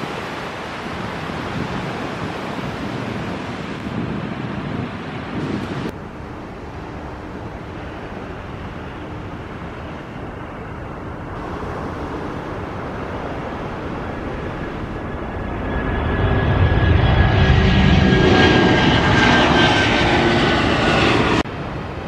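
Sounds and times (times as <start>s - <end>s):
jet engines roaring at takeoff: 0.0s - 22.0s.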